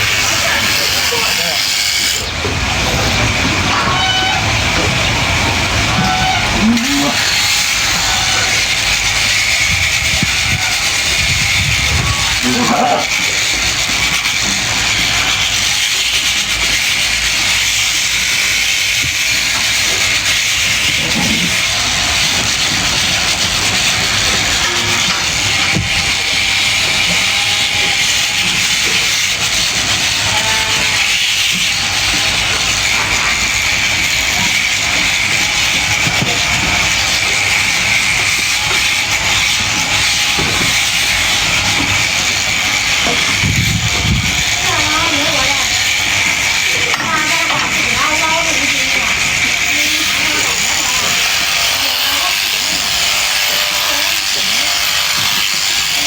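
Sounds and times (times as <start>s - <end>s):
electric sheep shears running: 0.0s - 56.0s.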